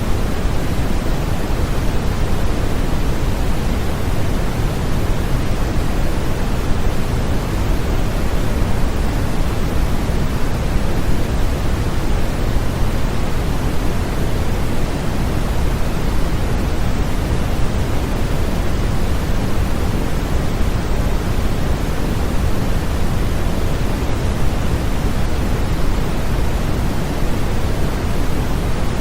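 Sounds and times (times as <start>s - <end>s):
deep steady electronic noise: 0.0s - 29.0s.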